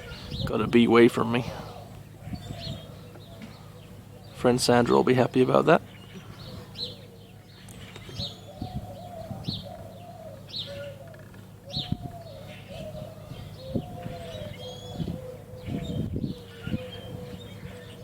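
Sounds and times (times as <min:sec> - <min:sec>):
bird chirping: 0:00.0 - 0:00.8, 0:01.4 - 0:18.0
bird cooing: 0:00.0 - 0:18.0.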